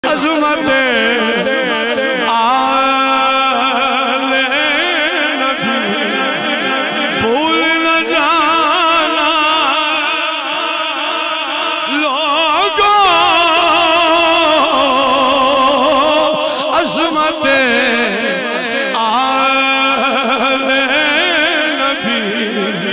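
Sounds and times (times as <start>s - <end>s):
man singing into a microphone: 0.0s - 22.9s.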